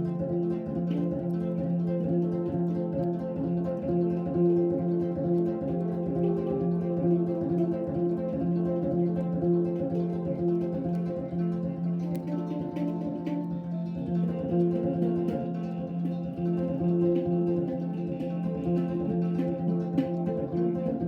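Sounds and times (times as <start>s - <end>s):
plucked string zither: 0.0s - 21.0s.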